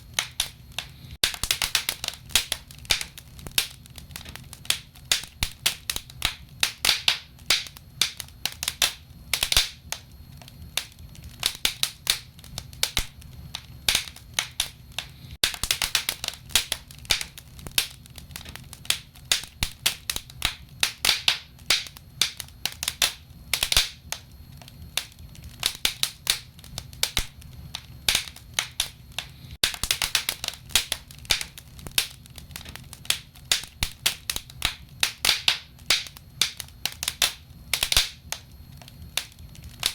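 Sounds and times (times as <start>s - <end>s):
fire crackling and popping: 0.0s - 39.9s
low rumble of burning fire: 0.0s - 39.9s.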